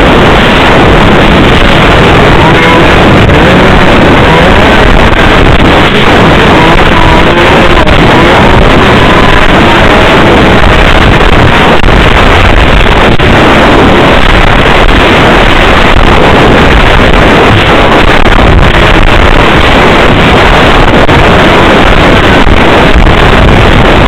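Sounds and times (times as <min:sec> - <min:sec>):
snowmobile engine running: 0:00.0 - 0:24.0
wind buffeting microphone: 0:00.0 - 0:24.0.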